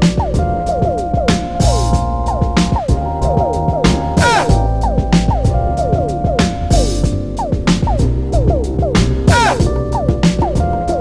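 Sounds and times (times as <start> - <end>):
electronic beat music: 0.0 - 11.0.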